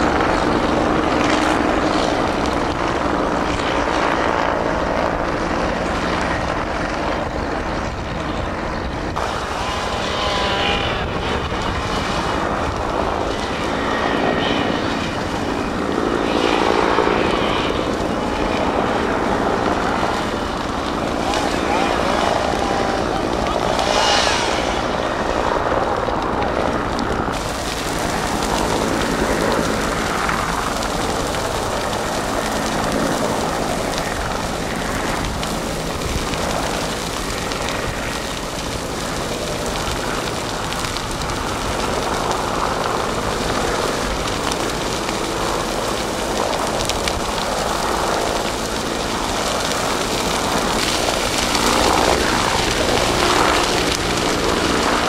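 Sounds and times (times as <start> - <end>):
brush fire crackling: 0.0 - 55.0
low engine drone: 0.0 - 55.0.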